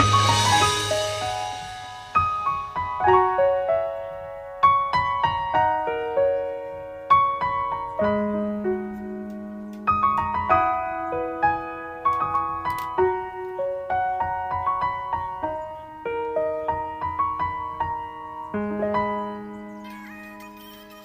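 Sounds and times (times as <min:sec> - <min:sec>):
gentle solo piano: 0:00.0 - 0:20.9.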